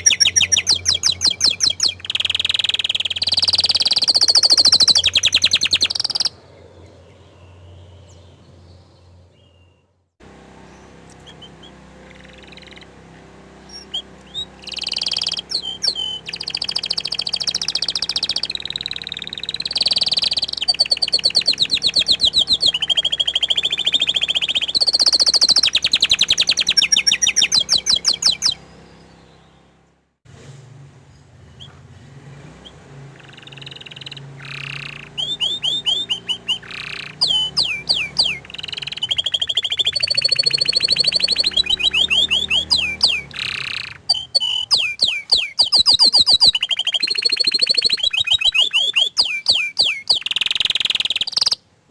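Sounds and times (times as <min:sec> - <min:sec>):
canary singing trills: 0:00.0 - 0:29.9, 0:31.1 - 0:51.7.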